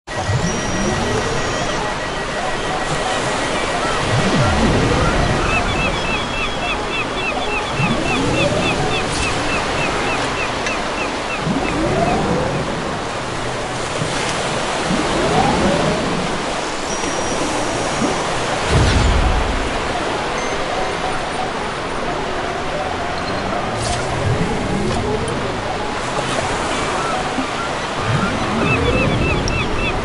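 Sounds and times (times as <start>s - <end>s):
ocean surf washing: 0.1s - 30.0s.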